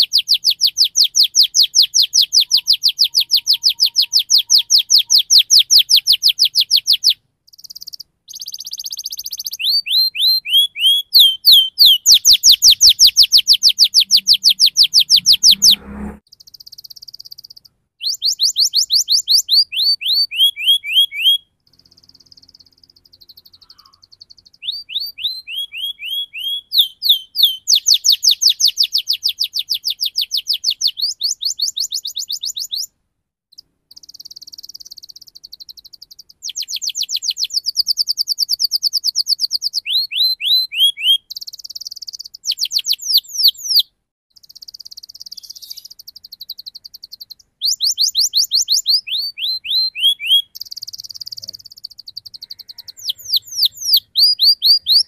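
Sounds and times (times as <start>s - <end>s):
canary singing trills: 0.0s - 32.9s, 33.5s - 55.0s.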